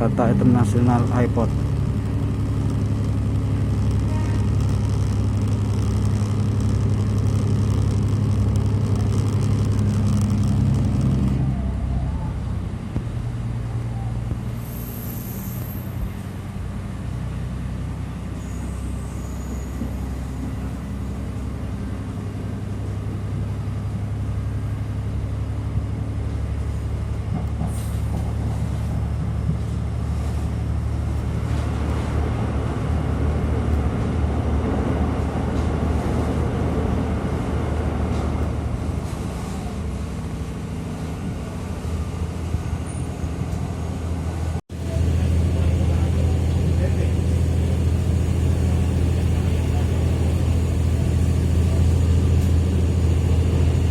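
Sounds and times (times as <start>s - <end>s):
train low hum: 0.0s - 53.9s
train rolling rumble: 0.0s - 53.9s.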